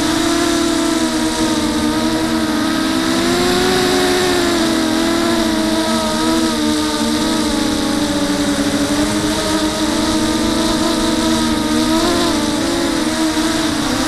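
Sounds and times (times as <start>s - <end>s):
quadcopter propellers buzzing: 0.0s - 14.0s.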